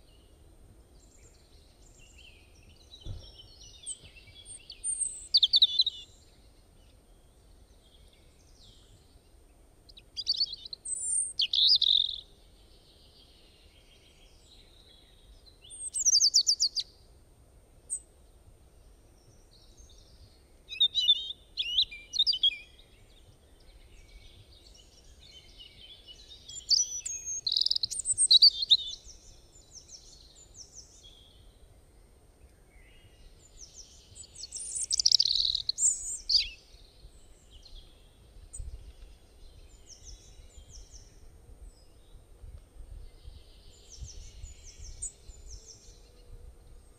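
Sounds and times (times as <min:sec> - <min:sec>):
birds chirping and trilling: 0:01.0 - 0:09.2, 0:09.9 - 0:16.9, 0:19.2 - 0:31.6, 0:32.6 - 0:42.2, 0:43.0 - 0:46.9.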